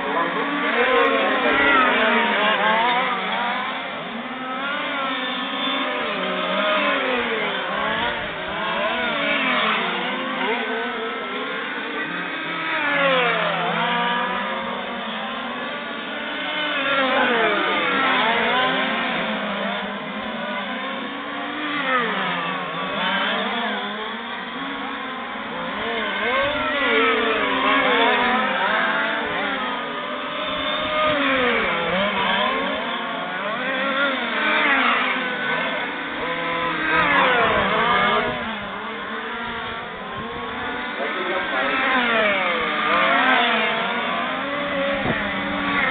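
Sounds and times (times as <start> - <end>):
rc truck engines revving: 0.0 - 45.9.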